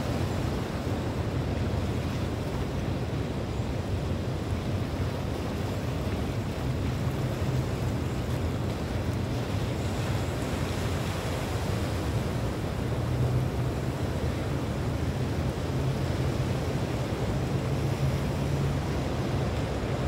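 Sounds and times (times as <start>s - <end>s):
surf washing on beach: 0.0s - 20.0s.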